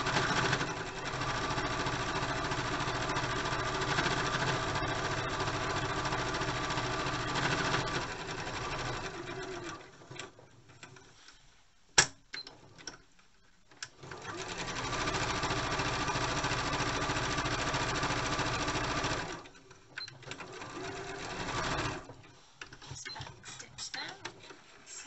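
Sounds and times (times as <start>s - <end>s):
sewing machine stitching: 0.0s - 11.0s, 13.8s - 23.4s.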